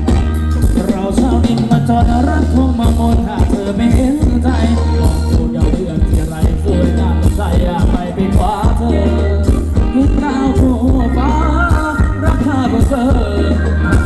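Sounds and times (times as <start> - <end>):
band playing dance song: 0.0 - 14.0
heavy bass line: 0.0 - 14.0
person singing: 0.0 - 14.0
steady drum beat: 0.0 - 14.0.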